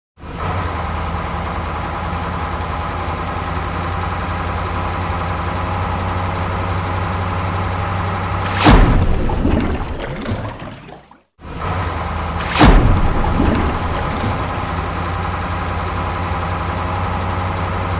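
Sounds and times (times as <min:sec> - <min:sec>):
truck engine idling: 0:00.2 - 0:09.4, 0:11.4 - 0:17.9.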